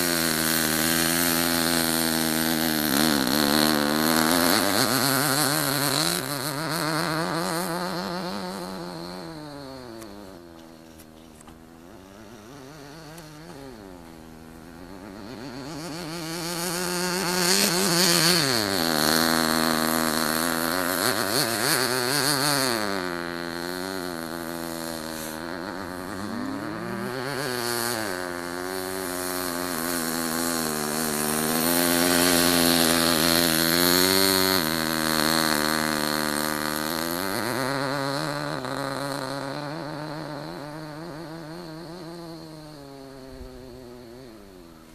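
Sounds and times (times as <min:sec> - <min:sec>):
model car engine revving: 0:00.0 - 0:44.9.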